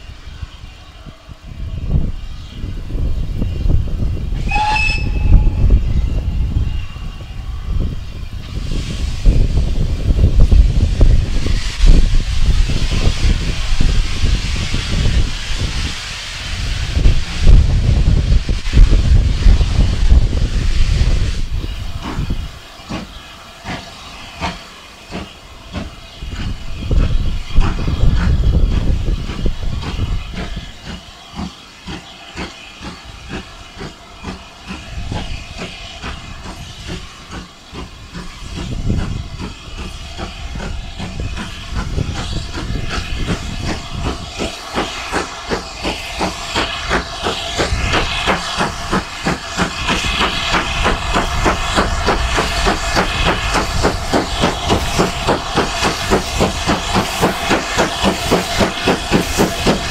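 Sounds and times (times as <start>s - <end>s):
steam locomotive chuffing: 0.0s - 59.9s
wind rumble on microphone: 0.3s - 22.6s, 25.7s - 31.0s, 34.9s - 45.6s, 46.2s - 59.9s.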